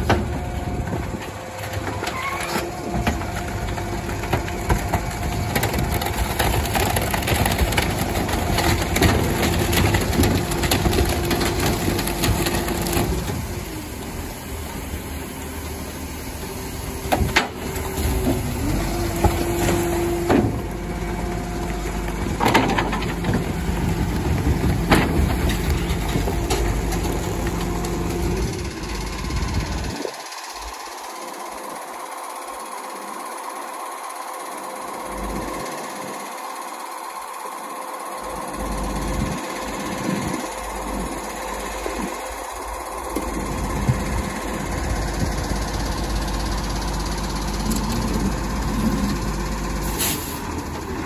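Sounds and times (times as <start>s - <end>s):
garbage truck compactor whine: 0.0s - 51.0s.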